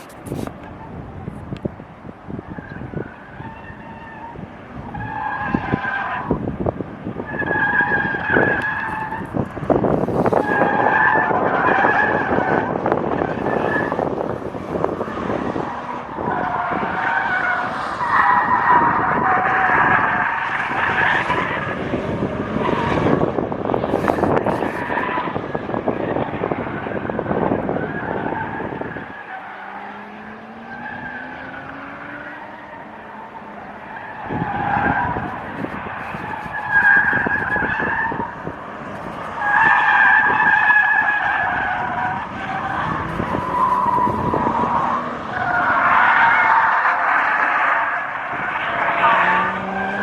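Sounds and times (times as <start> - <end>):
car tyres squealing: 0.0 - 1.6, 2.3 - 50.0
wind buffeting microphone: 0.0 - 29.2, 30.0 - 50.0.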